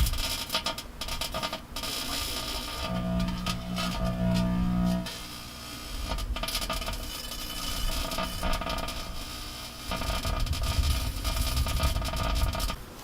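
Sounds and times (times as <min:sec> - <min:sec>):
microwave oven hum: 0:01.6 - 0:13.0.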